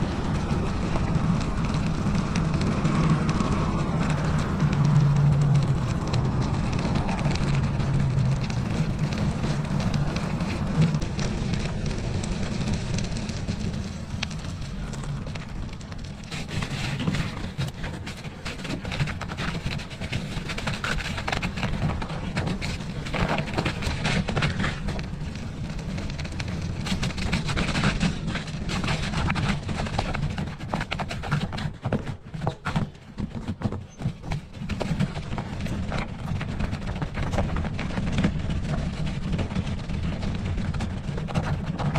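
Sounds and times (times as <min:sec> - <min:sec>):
bicycle tyre noise: 0:00.0 - 0:41.9
small knocks and rattles: 0:00.0 - 0:41.9
wind rumble on microphone: 0:00.0 - 0:41.9.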